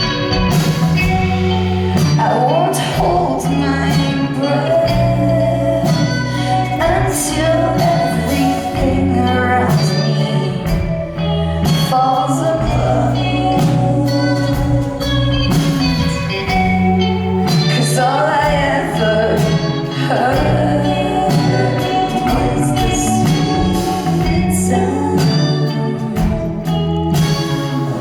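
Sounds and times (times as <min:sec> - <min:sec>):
person singing: 0:00.0 - 0:28.0
sustained bass notes: 0:00.0 - 0:28.0.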